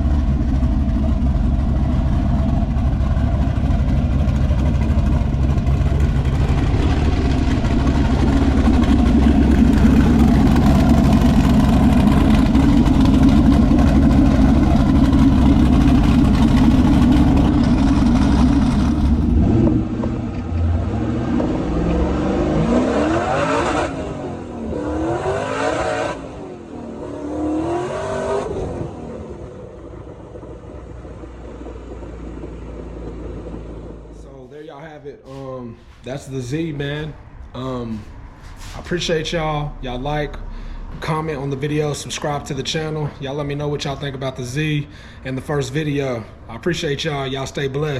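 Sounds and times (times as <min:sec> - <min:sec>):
car engine revving and idling: 0:00.0 - 0:34.4, 0:35.3 - 0:47.9.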